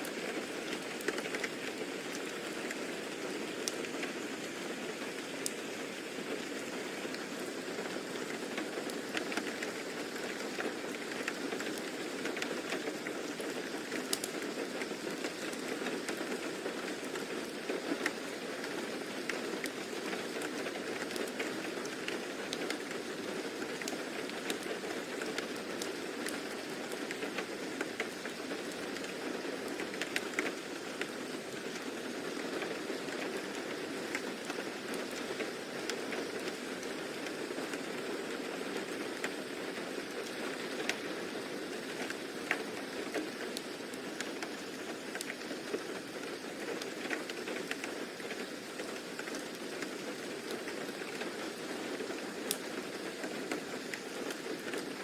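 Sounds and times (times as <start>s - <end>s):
steady rain falling: 0.0s - 55.0s
raindrops ticking: 6.4s - 39.4s, 40.2s - 55.0s.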